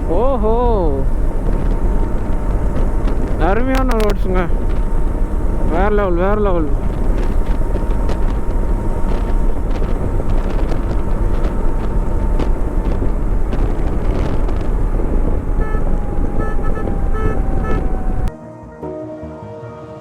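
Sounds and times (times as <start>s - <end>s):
motorcycle engine and road noise: 0.0s - 18.3s
wind buffeting microphone: 0.0s - 18.3s.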